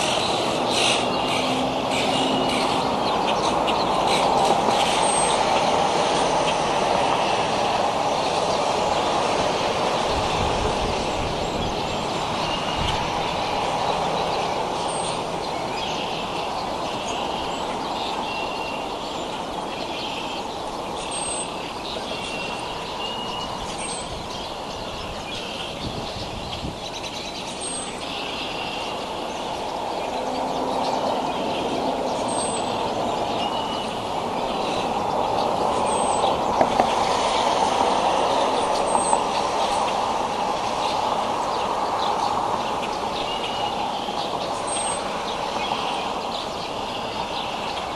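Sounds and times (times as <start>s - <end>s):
outdoor background noise: 0.0s - 47.9s.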